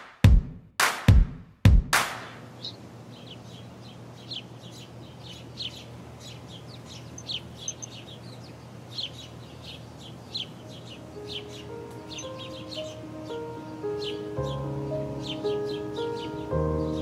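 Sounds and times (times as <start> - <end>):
small birds chirping: 2.3 - 17.0.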